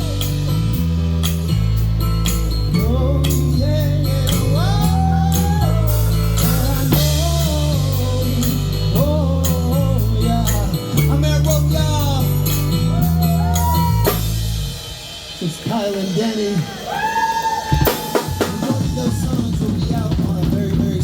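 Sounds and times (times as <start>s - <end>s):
heavy bass line: 0.0s - 17.2s
drum kit: 0.0s - 21.0s.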